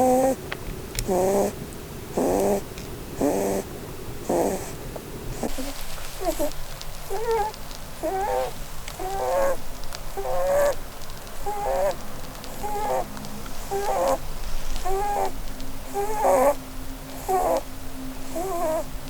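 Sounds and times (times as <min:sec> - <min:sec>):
rabbit snoring squeakily: 0:00.0 - 0:00.4, 0:01.0 - 0:19.0.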